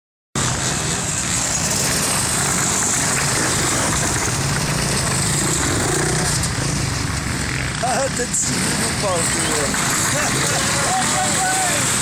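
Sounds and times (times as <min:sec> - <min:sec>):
dirt bike engines running: 0:00.4 - 0:12.0.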